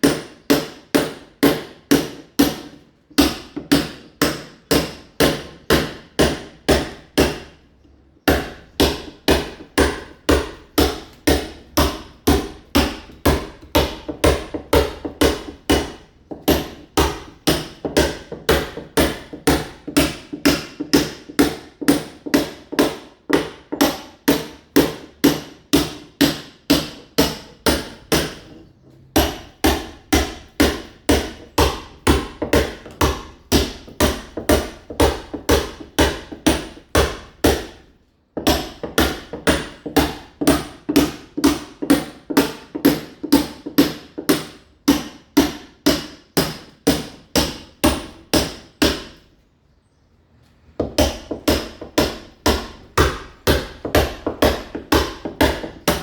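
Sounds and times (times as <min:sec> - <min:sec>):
hammer striking chisel on masonry: 0:00.0 - 0:49.4, 0:50.8 - 0:56.0.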